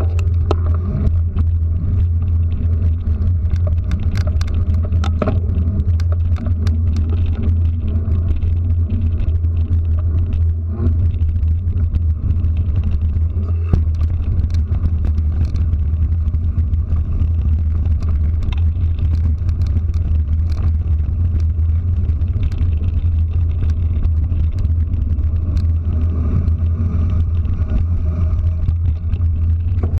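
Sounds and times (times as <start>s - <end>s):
clicks and rattles: 0.0s - 30.0s
road noise rumble: 0.0s - 30.0s
wind on microphone: 0.0s - 30.0s.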